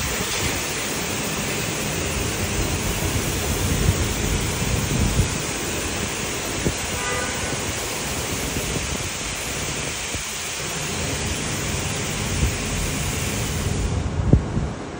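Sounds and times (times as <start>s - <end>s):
car wash water spray hiss: 0.0s - 14.9s.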